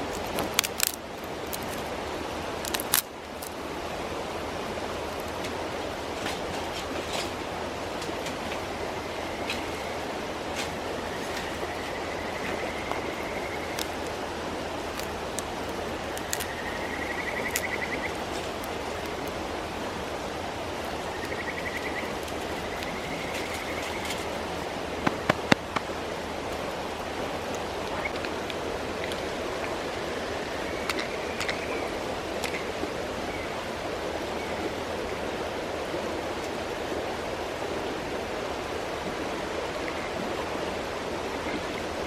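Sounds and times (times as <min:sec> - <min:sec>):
mountain stream flowing: 0:00.0 - 0:42.0.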